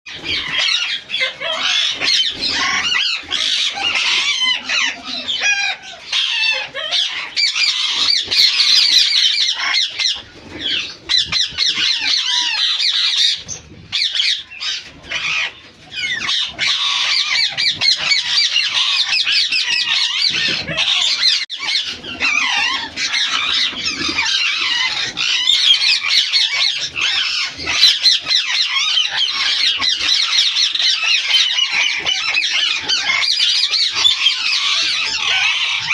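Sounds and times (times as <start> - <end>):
parakeets chattering and squawking: 0.1 - 35.9.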